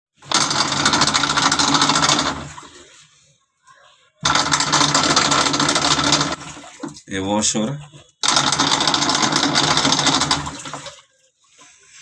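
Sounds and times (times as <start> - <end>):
washing machine agitation noise: 0.1 - 3.2, 4.2 - 11.2.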